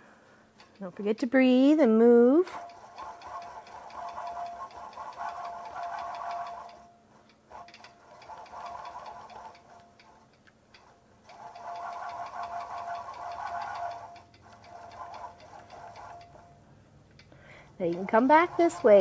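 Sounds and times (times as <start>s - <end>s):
quilting machine stitching: 0.6s - 10.2s, 10.8s - 16.5s, 17.6s - 19.0s.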